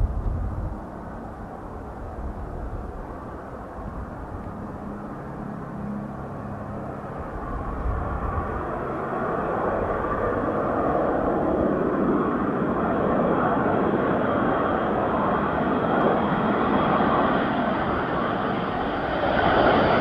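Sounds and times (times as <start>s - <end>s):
approaching jet rumble: 0.0s - 20.0s.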